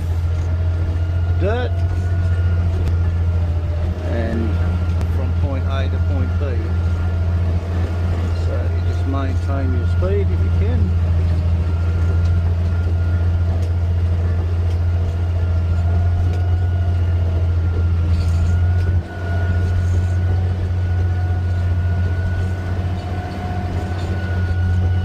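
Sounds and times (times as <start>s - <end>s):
bulldozer diesel engine droning: 0.0s - 25.0s
high whine: 0.0s - 25.0s.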